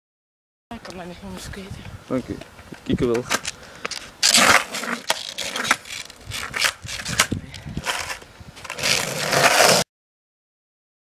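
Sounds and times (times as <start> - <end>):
skateboard wheels rolling on asphalt: 0.8 - 9.9.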